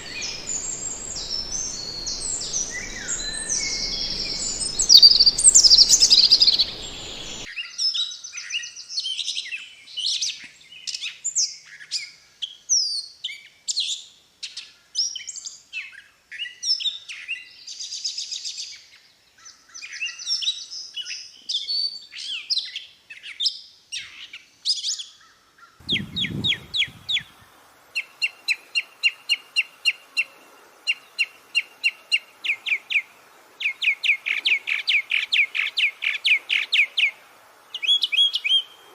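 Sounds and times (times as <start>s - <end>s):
faint background hiss: 0.0s - 7.5s, 8.8s - 38.9s
songbird varied song: 0.0s - 13.6s, 14.5s - 38.9s.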